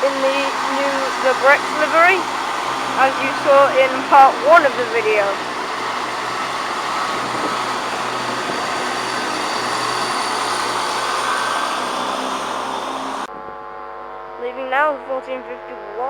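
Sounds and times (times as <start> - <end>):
diesel train engines droning: 0.0 - 13.3
low hum: 0.0 - 15.2.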